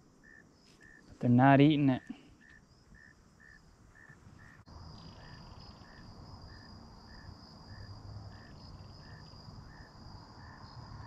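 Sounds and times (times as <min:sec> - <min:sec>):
insects chirping: 0:00.0 - 0:11.0
insects trilling: 0:00.0 - 0:11.0.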